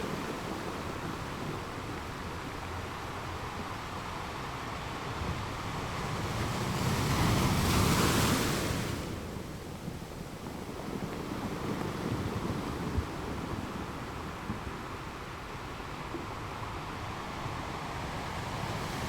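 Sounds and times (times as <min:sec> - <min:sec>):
sea waves washing: 0:00.0 - 0:19.0
wind rumble on microphone: 0:00.0 - 0:19.0.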